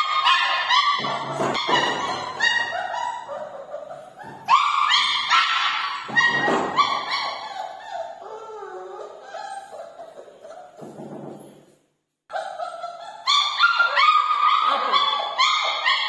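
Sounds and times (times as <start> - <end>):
puppies yelping and whining: 0.0 - 11.5, 12.3 - 16.0.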